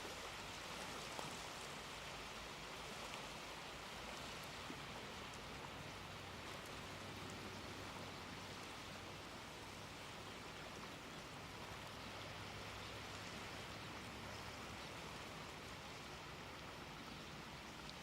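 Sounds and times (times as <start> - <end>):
small waves on seashore: 0.0 - 18.0.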